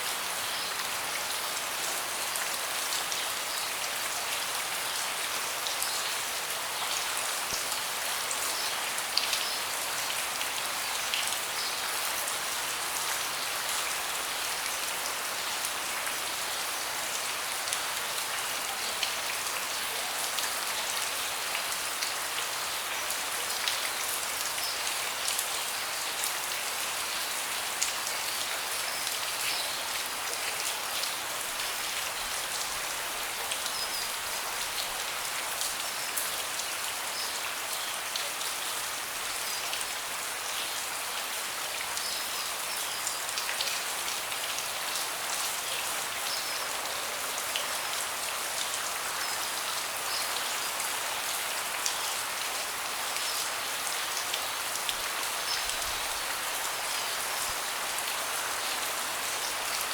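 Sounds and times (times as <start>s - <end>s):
rain falling on a deck: 0.0s - 59.9s.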